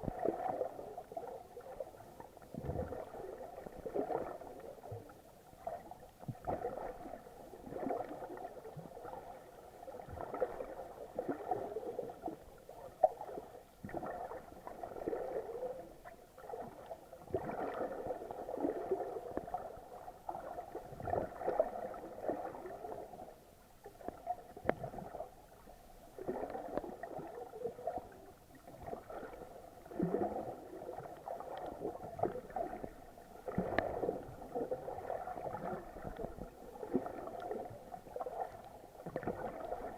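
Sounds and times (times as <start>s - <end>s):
muffled water sloshing and gurgling: 0.0s - 39.9s.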